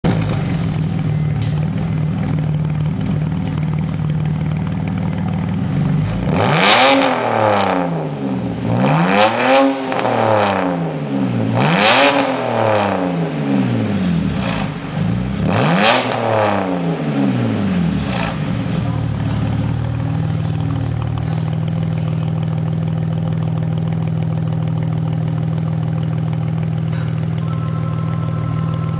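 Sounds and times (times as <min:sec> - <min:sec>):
car engine idling and revving: 0:00.0 - 0:28.9.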